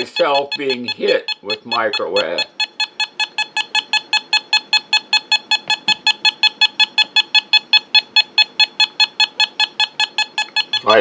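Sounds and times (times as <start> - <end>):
meter beeping rapidly: 0.0 - 11.0.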